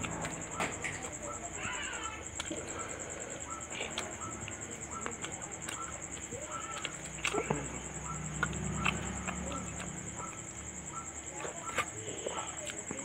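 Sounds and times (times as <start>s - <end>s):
fingers mixing food wet clicks: 0.0s - 13.0s
insects chirring: 0.0s - 13.0s.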